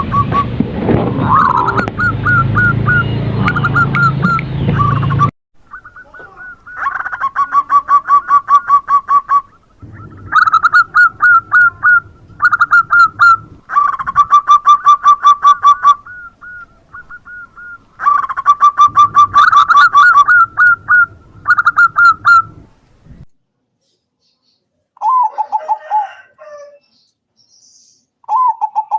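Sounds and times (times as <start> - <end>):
dove cooing rapidly: 1.1 - 22.7, 25.0 - 26.8
soft dove coos: 1.2 - 22.7, 25.0 - 26.8.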